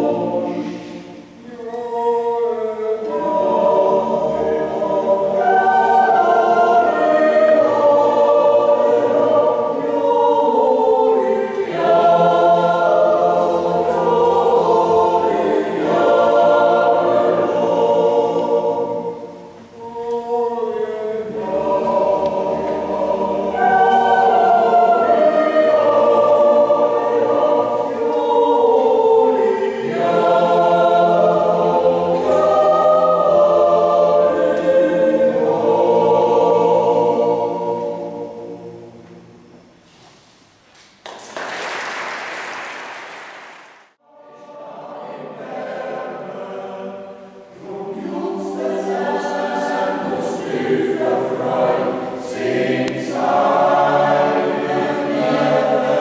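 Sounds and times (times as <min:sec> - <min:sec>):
choir singing in parts: 0:00.0 - 0:39.8, 0:42.0 - 0:56.0.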